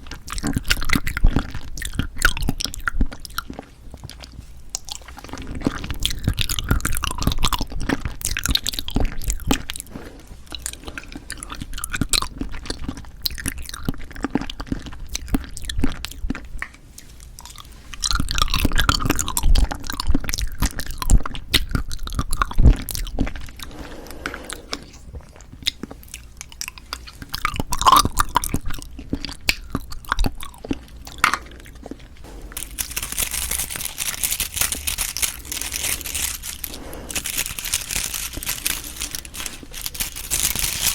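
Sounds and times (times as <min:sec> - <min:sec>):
chewing and squelching jelly: 0:00.0 - 0:40.9
crinkling: 0:00.0 - 0:40.9.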